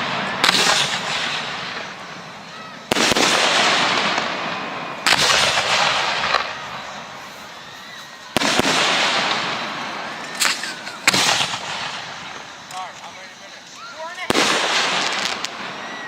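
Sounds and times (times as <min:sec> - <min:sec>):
crackling hiss of fireworks: 0:00.0 - 0:16.0
firework bangs: 0:00.0 - 0:16.0.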